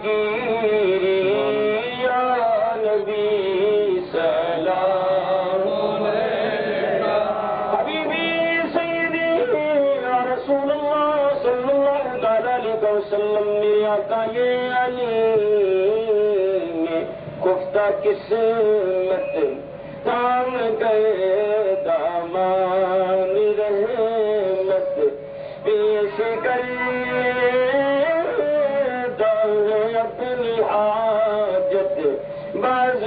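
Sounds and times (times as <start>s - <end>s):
voices chanting devotional song: 0.0s - 33.0s.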